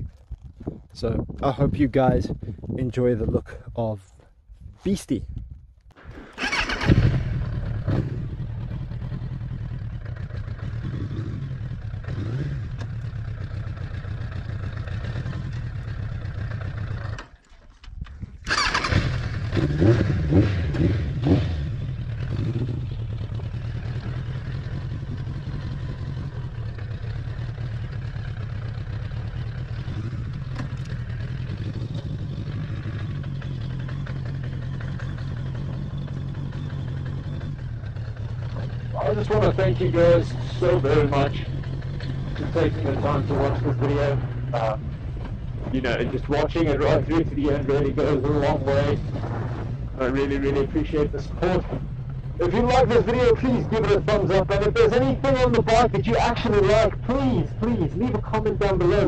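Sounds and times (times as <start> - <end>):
motorcycle engine running: 6.0 - 17.4, 18.3 - 59.0.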